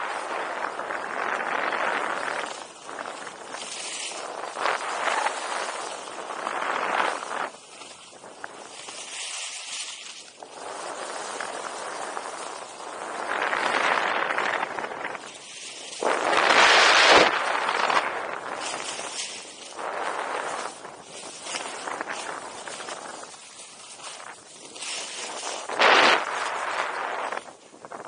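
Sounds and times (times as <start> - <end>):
skis scraping on snow: 0.0 - 28.0.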